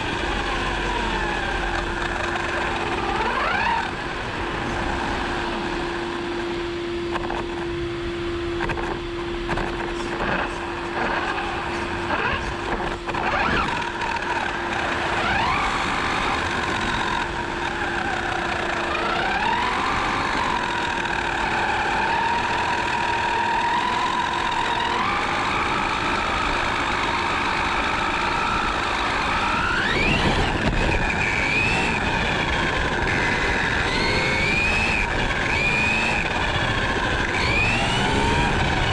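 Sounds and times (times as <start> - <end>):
electric motor whine: 0.0 - 38.9
tyre and road noise: 0.0 - 38.9.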